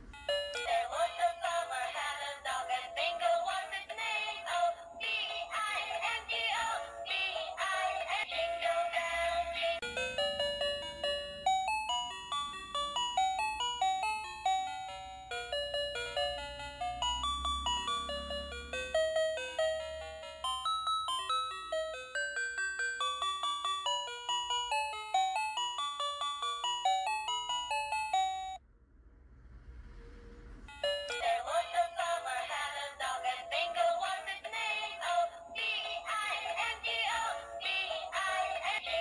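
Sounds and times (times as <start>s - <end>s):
tinny electronic toy melody: 0.0s - 28.6s, 30.7s - 39.0s.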